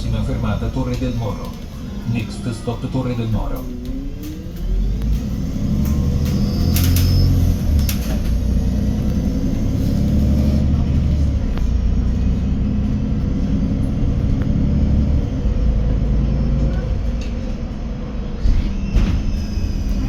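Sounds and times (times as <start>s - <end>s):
bus engine rumble: 0.0s - 20.0s.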